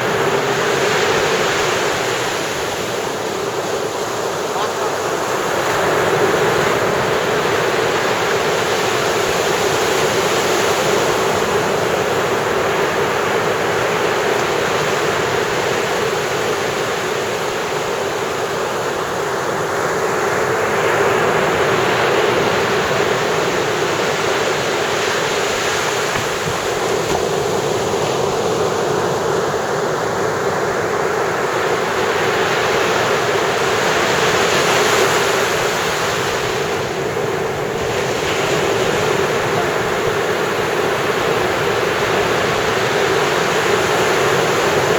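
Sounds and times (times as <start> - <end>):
ocean waves breaking on sand: 0.0 - 44.9.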